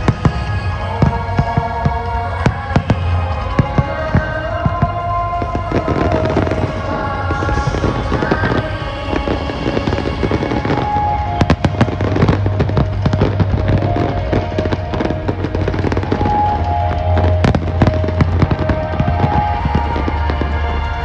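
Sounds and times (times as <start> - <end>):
fireworks bursting and crackling: 0.0 - 21.0
music on loudspeakers: 0.0 - 21.0.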